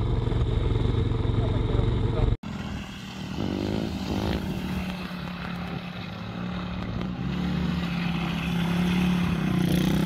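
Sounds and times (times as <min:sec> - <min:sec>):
pit bike engine at high revs: 0:00.0 - 0:10.0.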